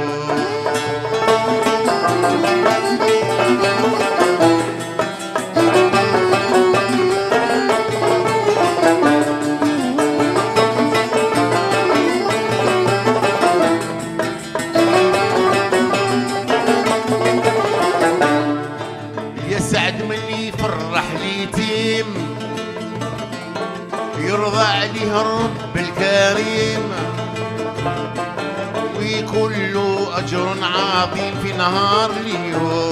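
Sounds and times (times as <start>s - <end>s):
guitar: 0.0s - 32.9s
plucked mandole melody: 0.0s - 32.9s.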